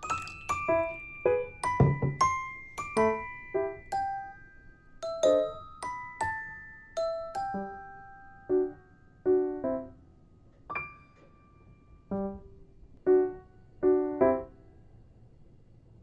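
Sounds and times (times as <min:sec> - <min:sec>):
soft piano notes and chords: 0:00.0 - 0:16.0.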